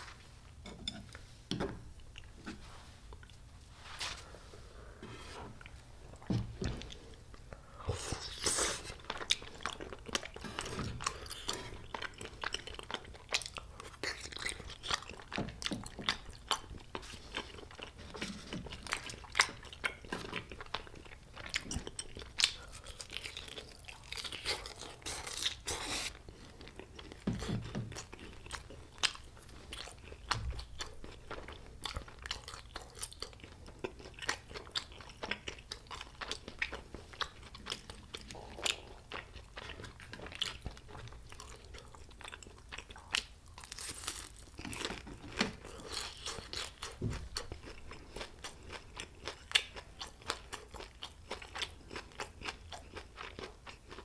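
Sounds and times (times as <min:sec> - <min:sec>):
crunching and chewing food: 0:05.6 - 0:54.0.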